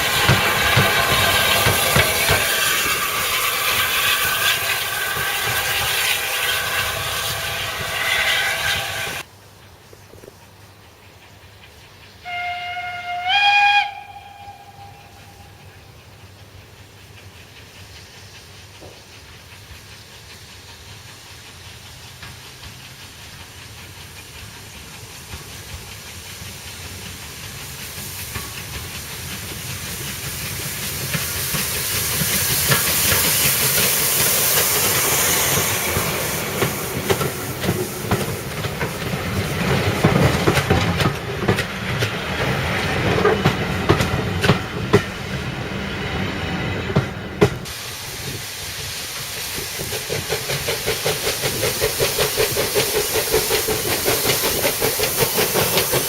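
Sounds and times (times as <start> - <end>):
steam hiss: 0.0 - 56.0
steam train passing: 0.0 - 56.0
wheels clicking over rail joints: 0.0 - 56.0.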